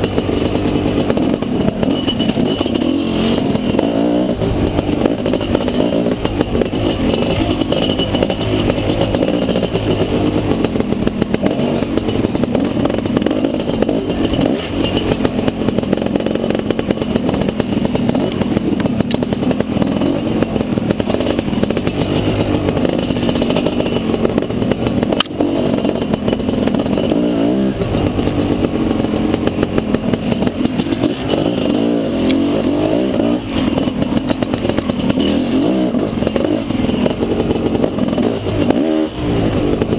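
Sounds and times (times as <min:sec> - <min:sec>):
bike rattling: 0:00.0 - 0:39.9
dirt bike engine revving: 0:00.0 - 0:39.9.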